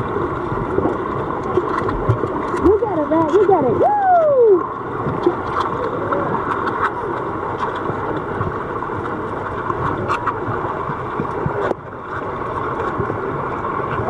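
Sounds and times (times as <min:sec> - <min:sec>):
muffled underwater rushing: 0:00.0 - 0:14.0
small clicks and crackles: 0:00.3 - 0:03.8, 0:04.6 - 0:14.0.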